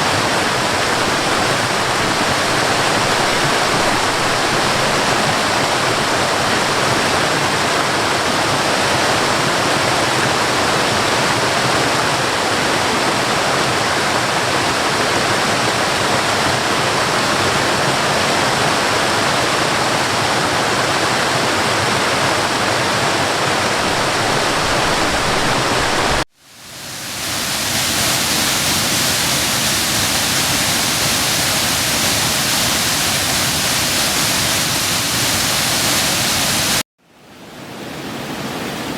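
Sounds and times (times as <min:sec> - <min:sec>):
waterfall roar: 0:00.0 - 0:36.8
hissy rush of water: 0:00.0 - 0:38.9.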